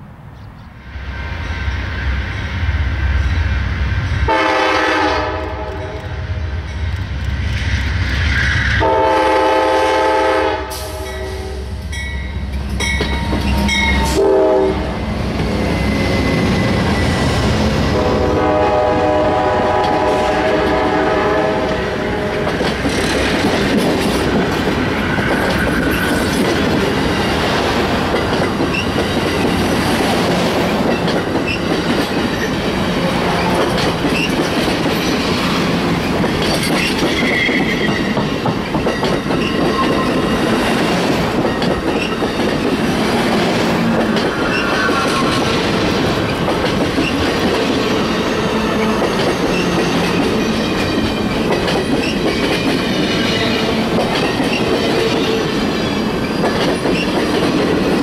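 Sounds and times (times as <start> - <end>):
train wheels rushing on rails: 0.8 - 58.0.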